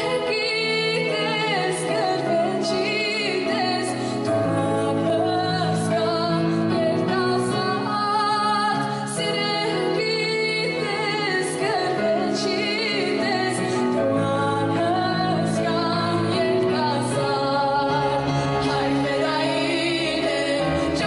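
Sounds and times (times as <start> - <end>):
woman singing: 0.0 - 21.0.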